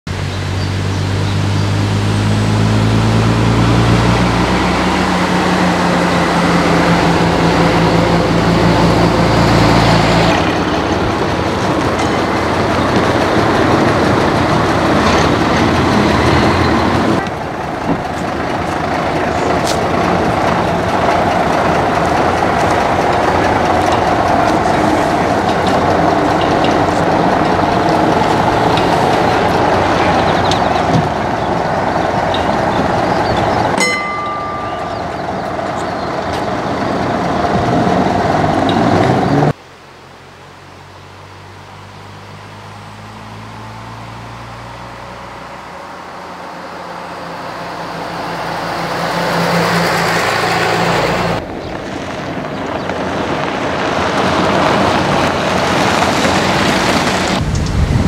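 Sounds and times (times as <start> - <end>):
bus engine running: 0.0 - 58.0.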